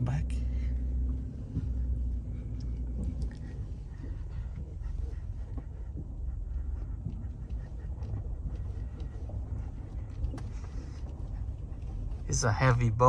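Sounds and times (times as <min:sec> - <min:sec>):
light ticks and rattles: 0:00.0 - 0:13.0
vehicle road rumble: 0:00.0 - 0:13.0.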